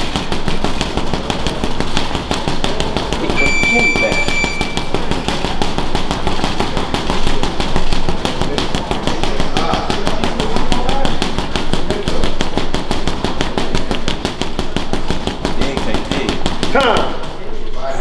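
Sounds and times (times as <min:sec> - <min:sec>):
boxing gloves punching heavy bag: 0:00.0 - 0:17.6.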